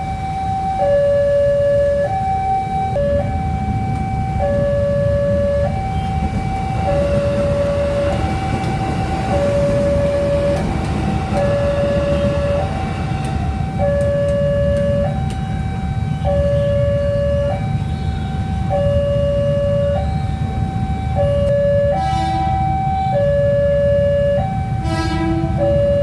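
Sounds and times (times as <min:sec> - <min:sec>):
heavy road traffic rumble: 0:00.0 - 0:26.0
level-crossing alarm two-note signal: 0:00.1 - 0:26.0.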